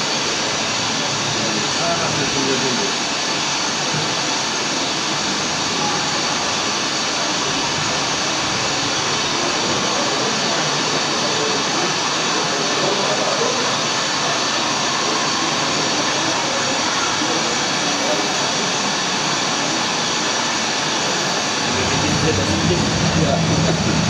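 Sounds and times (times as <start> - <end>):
jet engine noise over loudspeakers: 0.0 - 24.0
murmur of voices: 0.0 - 24.0.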